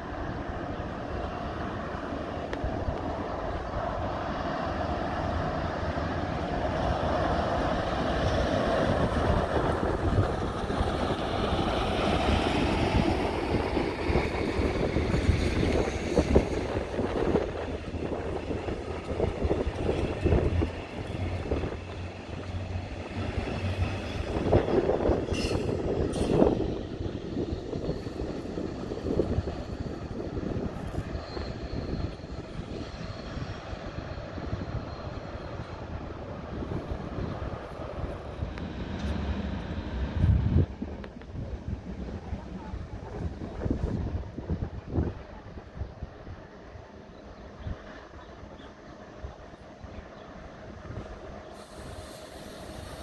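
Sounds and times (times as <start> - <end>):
rising train whine: 0.0 - 53.0
train rumbling along tracks: 0.0 - 53.0.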